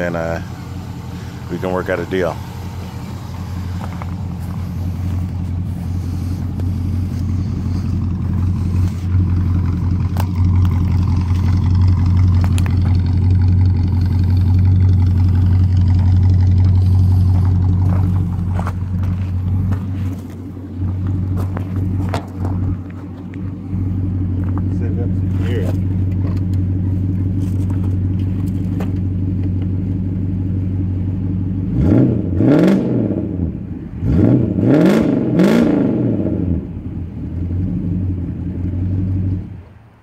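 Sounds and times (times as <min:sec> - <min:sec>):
car engine idling: 0:00.0 - 0:32.6, 0:36.3 - 0:40.0.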